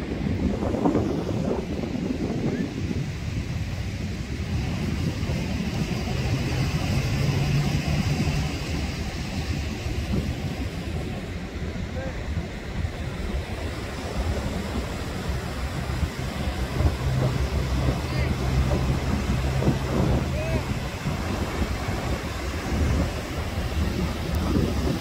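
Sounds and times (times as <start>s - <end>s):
surf breaking on beach: 0.0s - 25.0s
wind rumbling on microphone: 0.0s - 25.0s.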